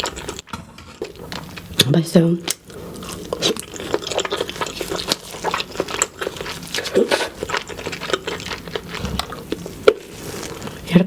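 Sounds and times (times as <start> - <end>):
person chewing food: 0.0 - 10.9.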